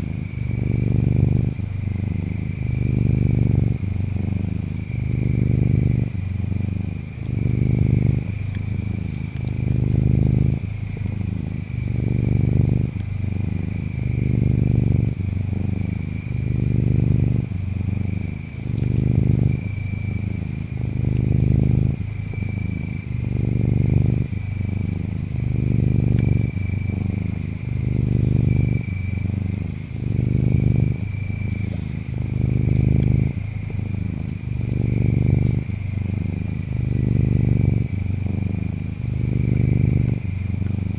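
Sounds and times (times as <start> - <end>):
cat purring: 0.0 - 40.9
insects chirping: 0.0 - 40.9.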